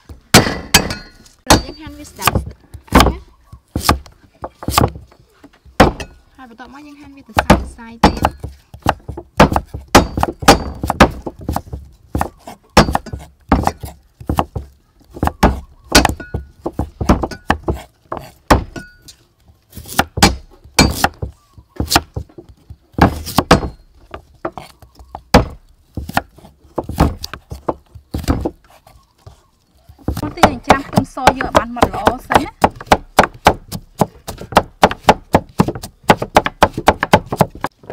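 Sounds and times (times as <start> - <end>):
knife chopping on wooden board: 0.3 - 5.0, 7.3 - 18.8, 19.9 - 22.3, 23.0 - 29.4, 30.0 - 37.7.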